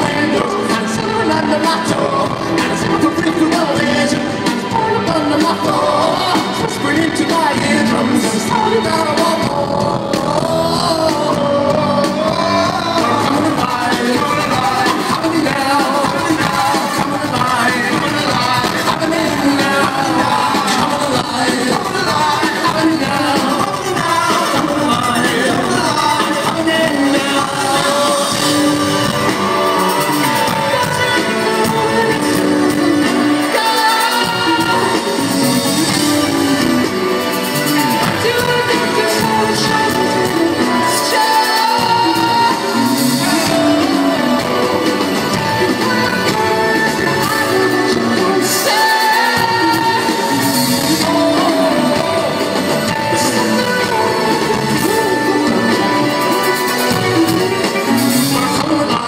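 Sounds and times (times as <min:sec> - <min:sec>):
person singing lead vocal: 0:00.0 - 0:59.0
rock band playing live: 0:00.0 - 0:59.0.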